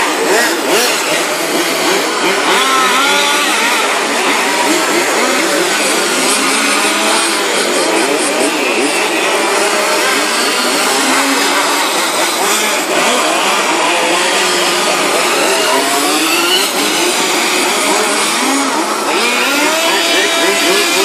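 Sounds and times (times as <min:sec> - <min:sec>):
small two-stroke engines racing: 0:00.0 - 0:21.0.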